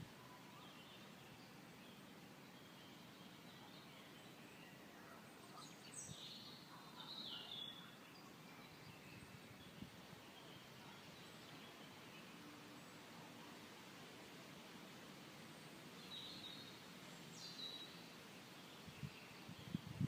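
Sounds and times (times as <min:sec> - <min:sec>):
faint outdoor ambience: 0:00.0 - 0:20.0.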